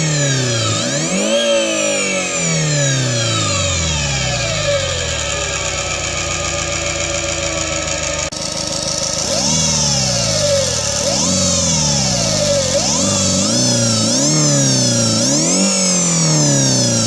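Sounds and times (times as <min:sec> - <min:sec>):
synthetic engine revving: 0:00.0 - 0:17.0.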